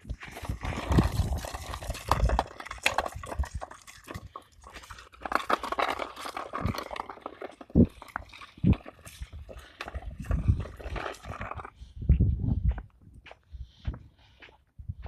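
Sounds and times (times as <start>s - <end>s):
footsteps and dog paws on path: 0.0s - 15.0s.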